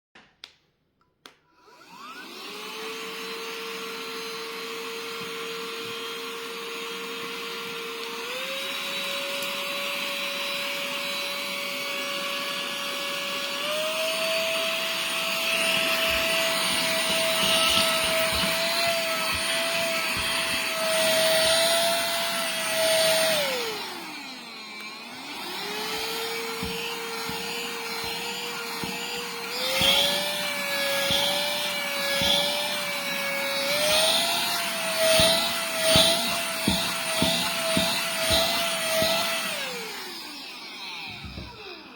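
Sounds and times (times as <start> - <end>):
small electric motor whining: 1.6 - 41.9.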